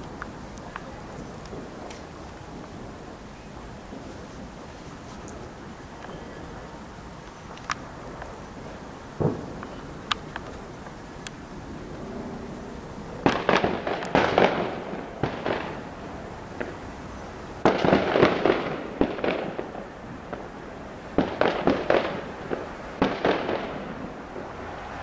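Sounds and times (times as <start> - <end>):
fireworks cracking and banging: 0.0 - 25.0.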